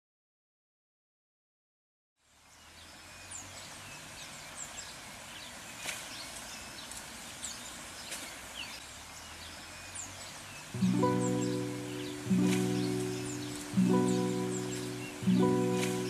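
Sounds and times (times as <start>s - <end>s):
background hiss: 2.2s - 16.0s
birds chirping: 2.4s - 16.0s.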